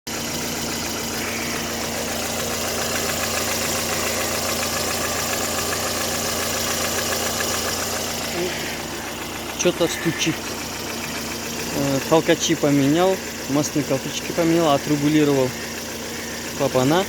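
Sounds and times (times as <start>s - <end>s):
car engine idling: 0.1s - 17.0s
rapid ticking engine knock: 0.1s - 17.0s.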